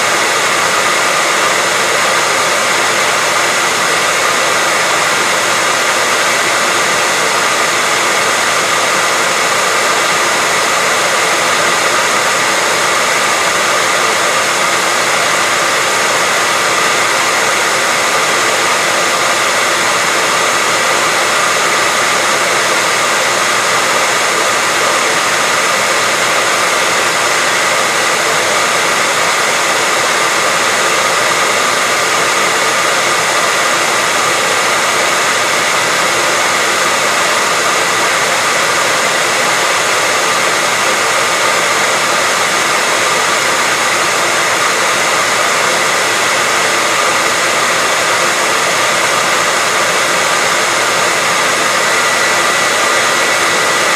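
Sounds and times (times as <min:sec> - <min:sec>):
hair dryer blowing: 0:00.0 - 0:53.9.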